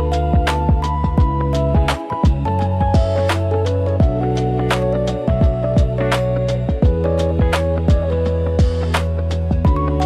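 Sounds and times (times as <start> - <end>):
music with bass and drum beat: 0.0 - 10.0.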